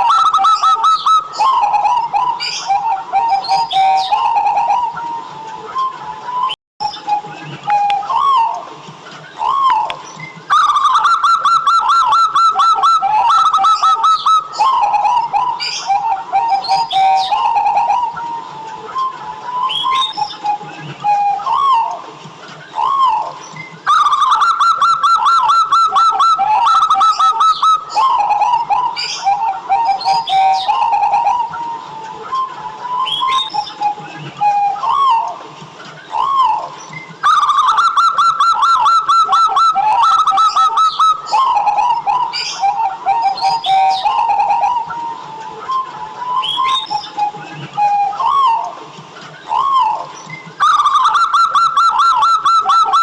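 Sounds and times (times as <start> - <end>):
dove cooing: 0.0 - 8.7, 9.3 - 22.0, 22.6 - 35.4, 36.0 - 48.8, 49.4 - 53.0.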